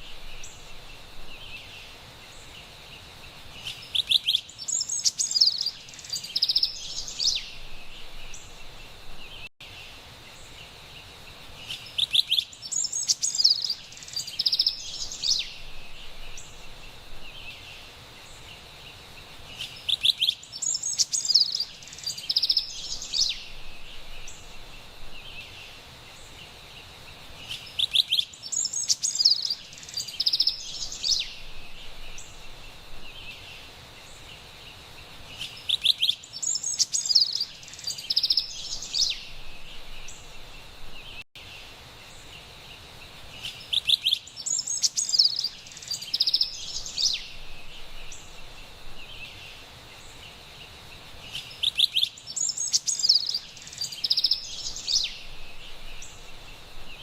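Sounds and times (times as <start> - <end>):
steady high background hiss: 0.0 - 57.0
wren singing rolling phrases: 0.0 - 57.0.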